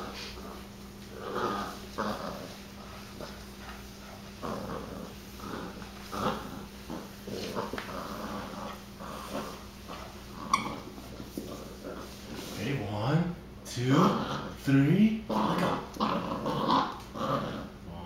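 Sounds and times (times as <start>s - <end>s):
puppy play-growling: 0.0s - 12.6s, 13.6s - 18.0s.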